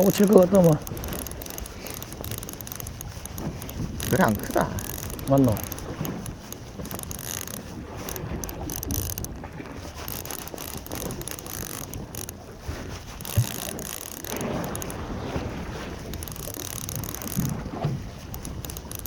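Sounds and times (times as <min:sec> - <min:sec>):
fishing reel gears ticking: 0:00.0 - 0:12.4, 0:13.2 - 0:15.0, 0:16.1 - 0:17.6, 0:18.2 - 0:19.0
boat noise: 0:00.0 - 0:19.0
wind on the microphone: 0:00.0 - 0:19.0.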